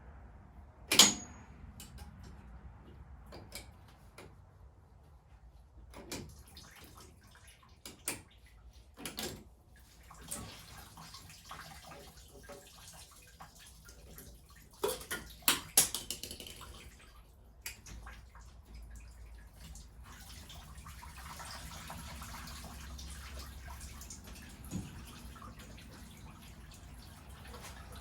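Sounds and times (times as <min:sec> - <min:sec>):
coolant splashing and dripping: 0:05.5 - 0:28.0.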